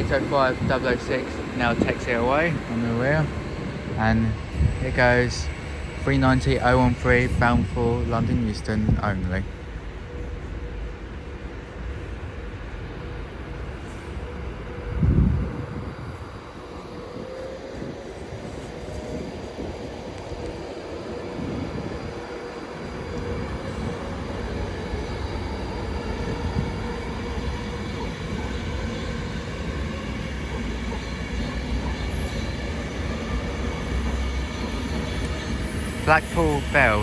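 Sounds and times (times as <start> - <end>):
electric train rumbling: 0.0 - 37.0
faint train whine: 0.0 - 37.0.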